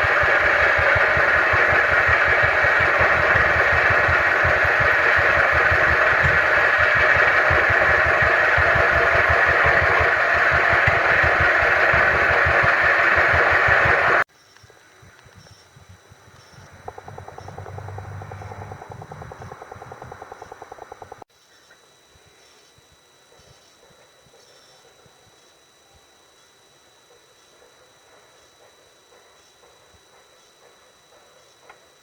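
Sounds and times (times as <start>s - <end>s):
motor running with low pulsing: 0.0s - 14.3s, 14.9s - 32.0s.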